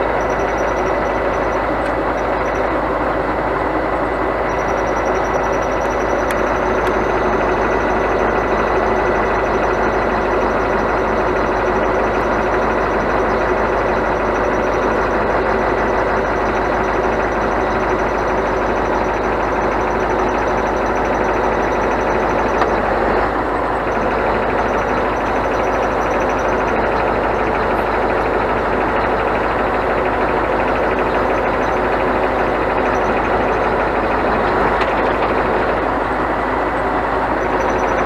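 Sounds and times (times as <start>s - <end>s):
faint steady tones: 0.0s - 38.0s
truck engine and road noise: 0.0s - 38.0s.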